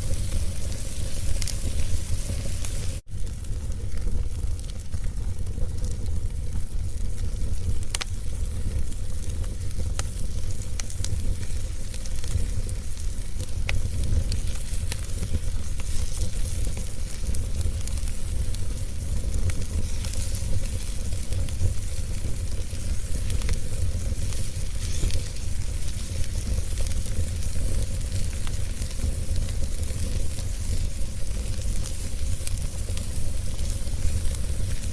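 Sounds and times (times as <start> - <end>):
fire crackles and pops: 0.0 - 34.9
wood fire rumble and hiss: 0.0 - 34.9.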